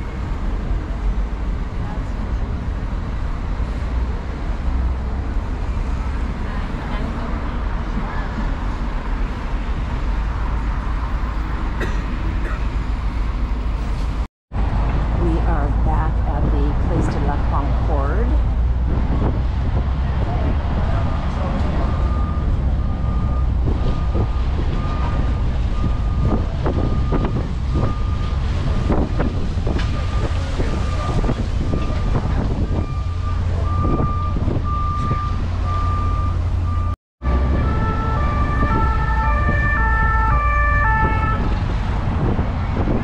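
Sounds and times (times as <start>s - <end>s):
bus engine rumble: 0.0s - 43.0s
wind: 0.0s - 43.0s.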